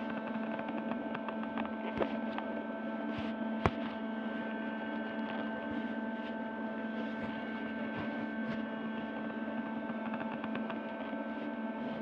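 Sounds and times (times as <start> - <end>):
droning hum: 0.0 - 12.0.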